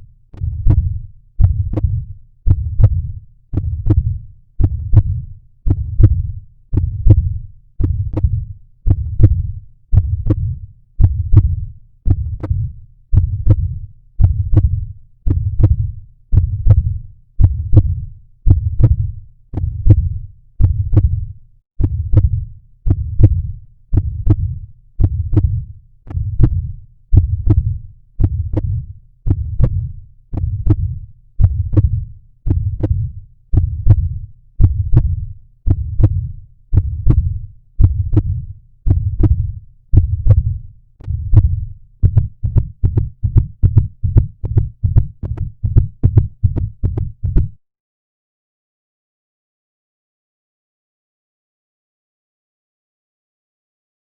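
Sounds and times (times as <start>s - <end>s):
heartbeat thumps: 0.0s - 47.6s.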